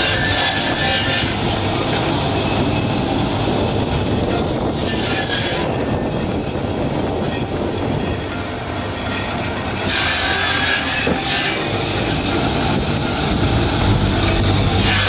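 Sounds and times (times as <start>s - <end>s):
circular saw running: 0.0s - 15.0s.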